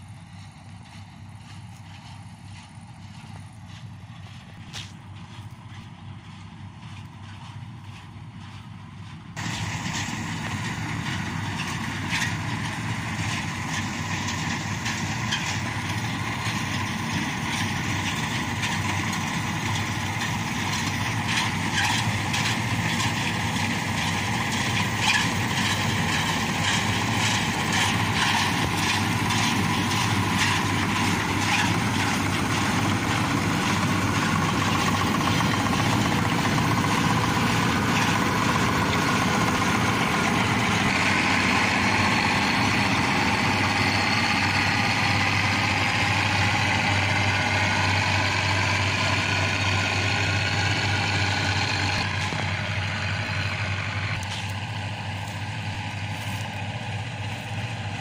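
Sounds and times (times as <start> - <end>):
diesel engine running: 0.0 - 58.0
machinery rattling: 0.9 - 58.0.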